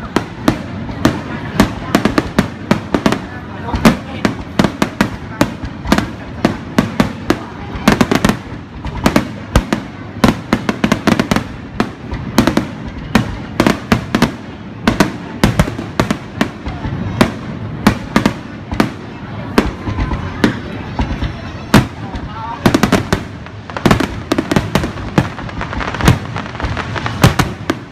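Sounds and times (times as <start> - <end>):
fireworks and firecrackers banging: 0.0 - 27.9.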